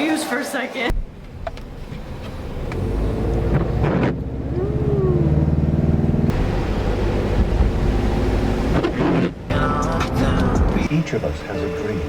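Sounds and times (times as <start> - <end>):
car engine rumbling: 0.9 - 12.0.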